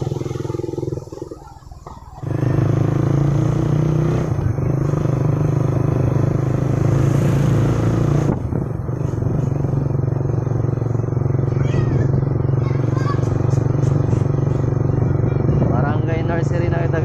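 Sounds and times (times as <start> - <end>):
road noise: 0.0 - 17.0
vehicle engine running: 0.0 - 17.0.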